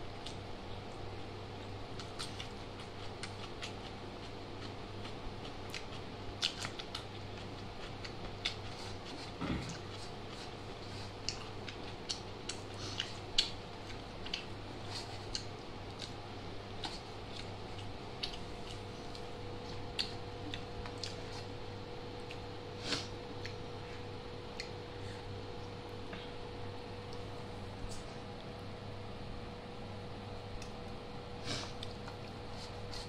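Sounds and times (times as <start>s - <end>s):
person chewing food: 0.2s - 25.8s, 31.4s - 33.0s.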